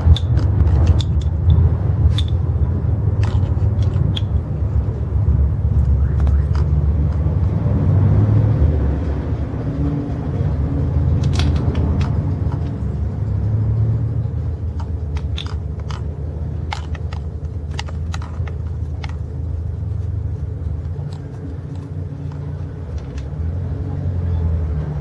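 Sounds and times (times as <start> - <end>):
irregular clicks and ticks: 0.0 - 24.2.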